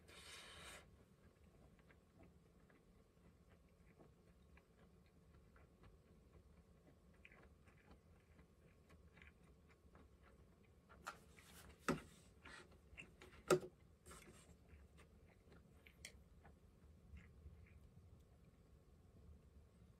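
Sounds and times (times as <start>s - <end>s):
faint chewing: 0.0s - 18.6s.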